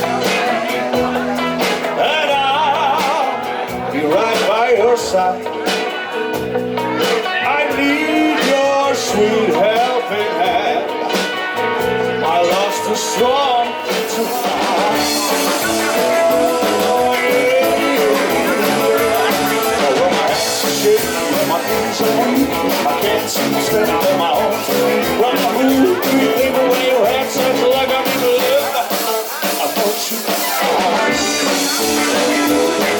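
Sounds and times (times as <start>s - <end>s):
lead singer singing: 0.0s - 32.9s
rock band playing live: 0.0s - 32.9s.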